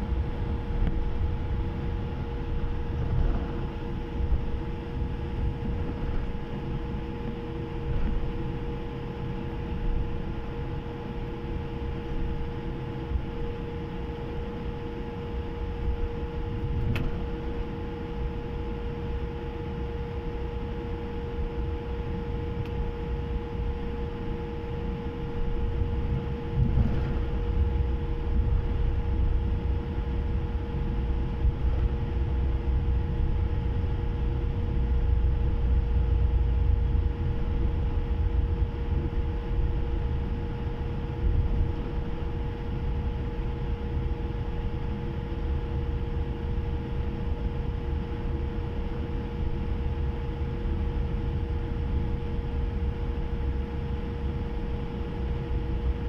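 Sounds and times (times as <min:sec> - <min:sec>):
aircraft cabin rumble: 0:00.0 - 0:45.4
constant cabin hum: 0:00.0 - 0:56.0.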